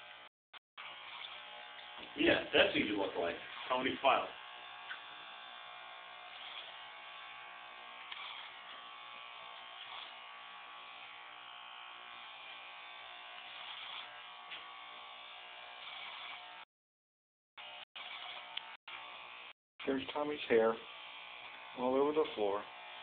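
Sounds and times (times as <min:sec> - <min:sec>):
electric hair clippers buzzing: 0:00.0 - 0:16.7, 0:17.6 - 0:23.0.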